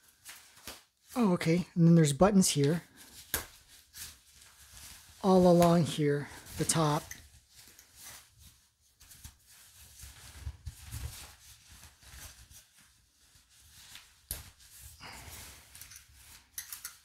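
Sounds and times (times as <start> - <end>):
fabric bag rustling: 2.4 - 16.6.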